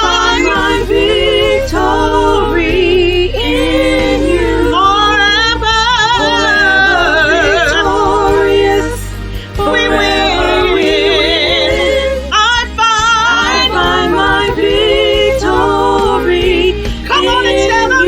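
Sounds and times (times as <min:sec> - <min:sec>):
gospel singers singing slow song: 0:00.0 - 0:18.0
low instrumental accompaniment: 0:00.0 - 0:18.0.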